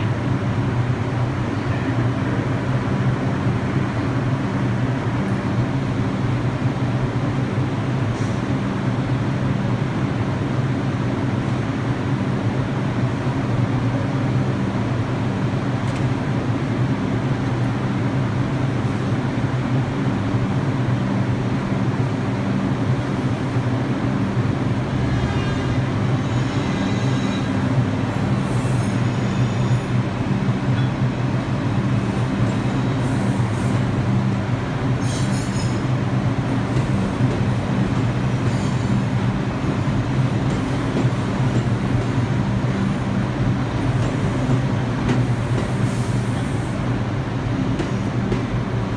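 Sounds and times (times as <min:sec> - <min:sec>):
subway train humming: 0:00.0 - 0:48.9.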